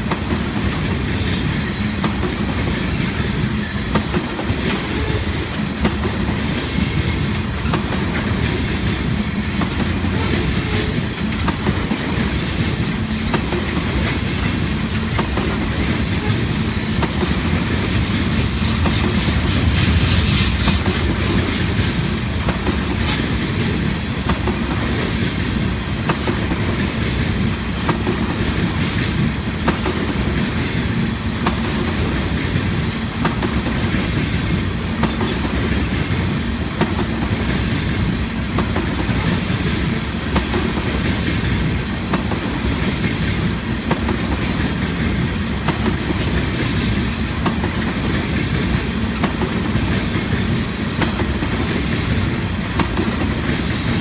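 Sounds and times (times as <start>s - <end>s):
train wheels rumbling on rail: 0.0s - 54.0s
wheels clickety-clack on rail joints: 0.0s - 54.0s.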